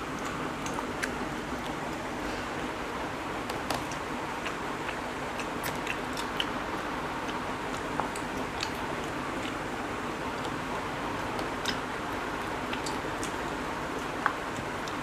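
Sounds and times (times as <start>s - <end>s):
steady background hiss: 0.0s - 15.0s
chewing: 0.1s - 2.5s, 3.6s - 10.6s, 11.2s - 15.0s.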